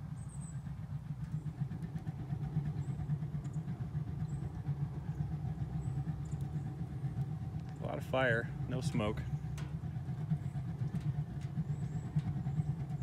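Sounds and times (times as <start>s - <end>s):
heater flame fluttering rumble: 0.0s - 13.0s.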